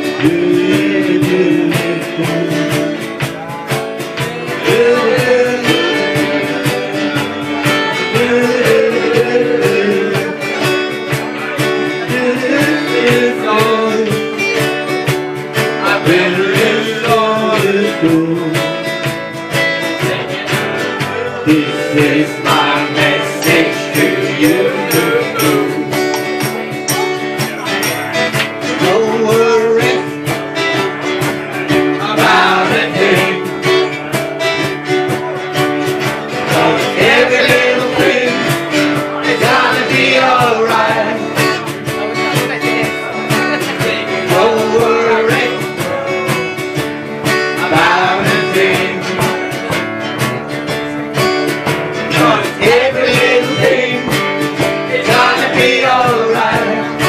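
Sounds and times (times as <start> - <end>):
man singing: 0.0 - 50.8, 51.9 - 57.0
strummed guitar: 0.0 - 57.0.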